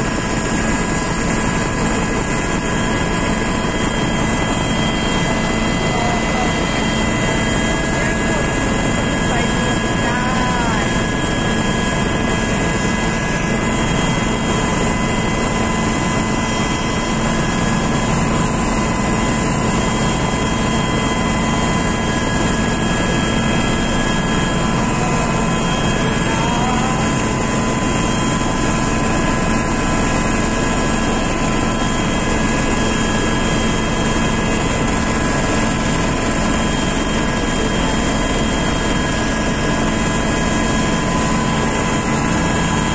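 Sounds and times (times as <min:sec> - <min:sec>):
aircraft cabin roar: 0:00.0 - 0:42.9
steady whining tones: 0:00.0 - 0:42.9.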